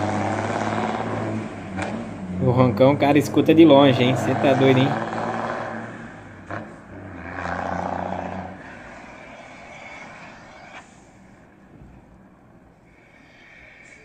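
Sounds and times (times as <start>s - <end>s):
diesel truck pulling away: 0.0s - 11.6s.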